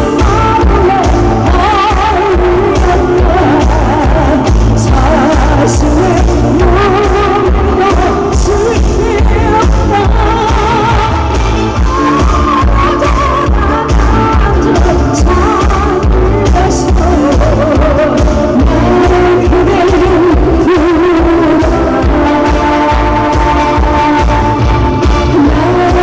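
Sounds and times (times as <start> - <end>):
bass and drum backing track: 0.0 - 26.0
woman singing into microphone: 0.0 - 26.0.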